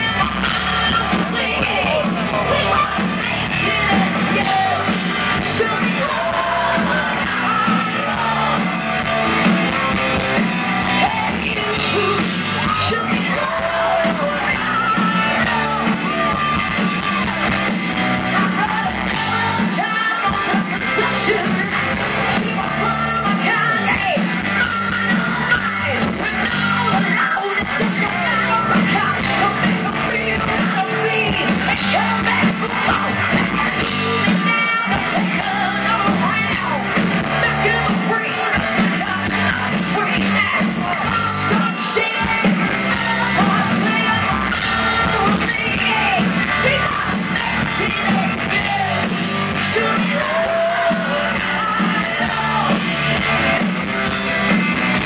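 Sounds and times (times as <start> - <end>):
drums: 0.0 - 55.0
electric guitar: 0.0 - 55.0
lead singer singing: 0.0 - 55.0.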